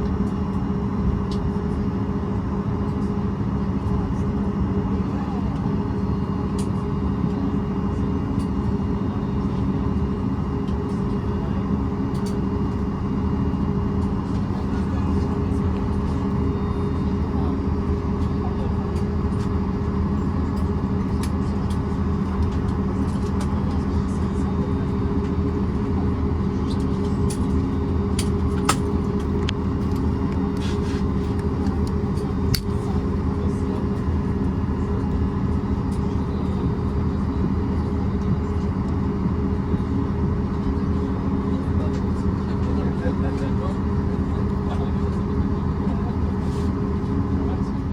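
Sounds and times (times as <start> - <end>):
aircraft cabin rumble: 0.0 - 47.9.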